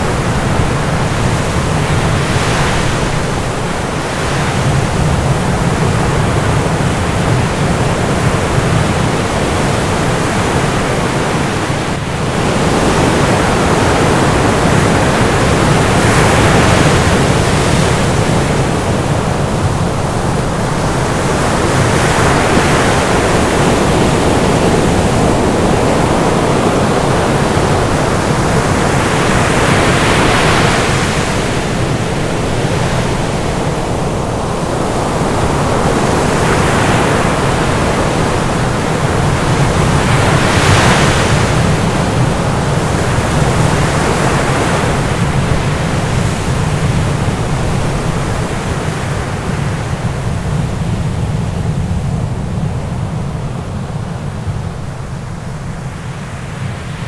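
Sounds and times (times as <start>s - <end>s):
ocean surf rushing: 0.0s - 57.0s.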